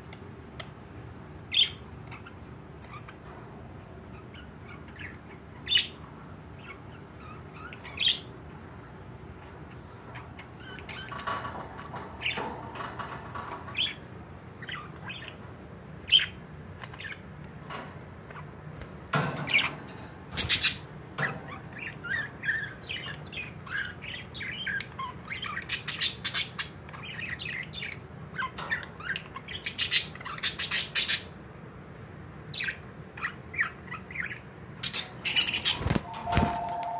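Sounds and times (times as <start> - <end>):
budgerigars chirping and chattering: 1.4 - 3.2, 4.1 - 8.4, 9.6 - 18.6, 19.4 - 31.4, 32.5 - 36.5.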